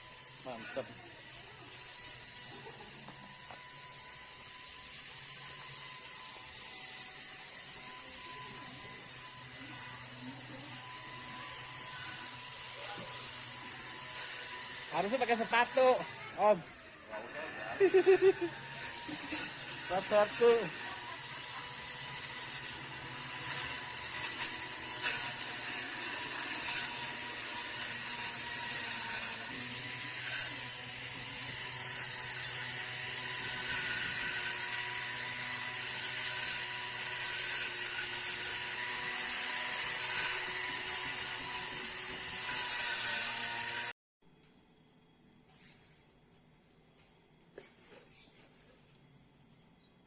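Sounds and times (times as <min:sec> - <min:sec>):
electric grass cutter whining: 0:00.0 - 0:44.0.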